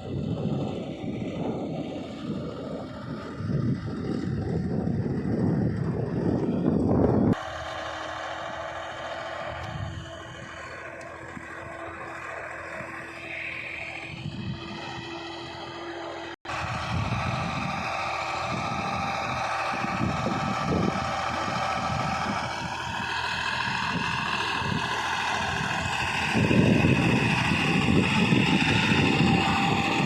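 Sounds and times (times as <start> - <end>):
wind rumbling on microphone: 0.0 - 7.7, 9.2 - 13.3, 14.0 - 15.8, 16.5 - 30.0
tractor engine running: 0.0 - 30.0.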